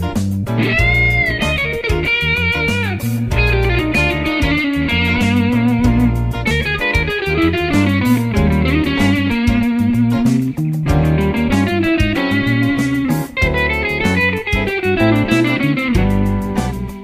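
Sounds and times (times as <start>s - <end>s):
bass: 0.0s - 17.0s
electric guitar lead lines: 0.0s - 17.0s
steady drum beat: 0.2s - 17.0s.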